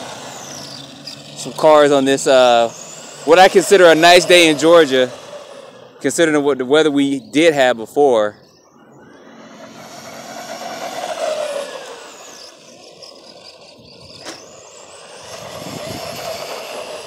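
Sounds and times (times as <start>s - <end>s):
motor and gear whine: 0.0s - 17.0s.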